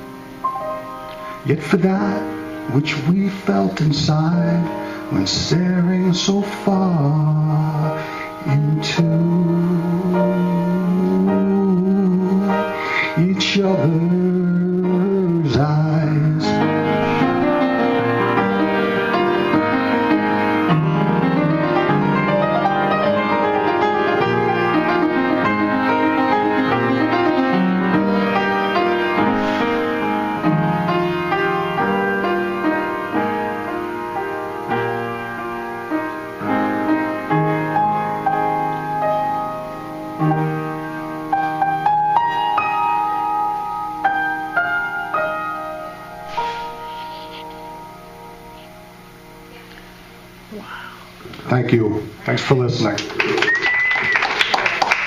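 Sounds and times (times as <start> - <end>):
piano playing: 0.0 - 51.1.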